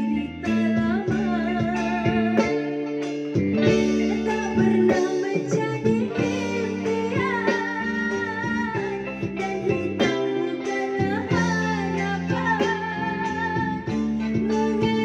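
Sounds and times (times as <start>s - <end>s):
live band playing: 0.0s - 15.0s
person singing melody: 0.0s - 15.0s.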